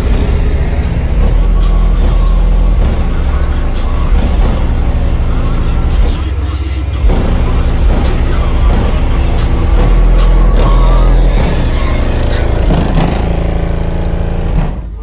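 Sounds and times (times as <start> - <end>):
loud bass-heavy music from car speakers: 0.0 - 15.0.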